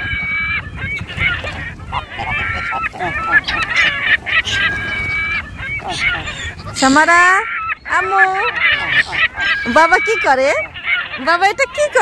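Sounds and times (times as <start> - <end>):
geese and gulls calling: 0.0 - 12.0.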